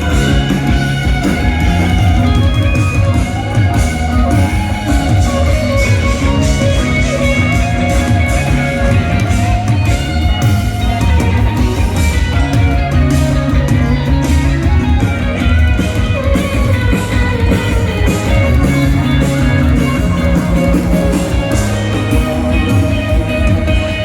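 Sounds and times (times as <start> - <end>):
guitar solo: 0.0 - 24.0
rock band playing live: 0.0 - 24.0.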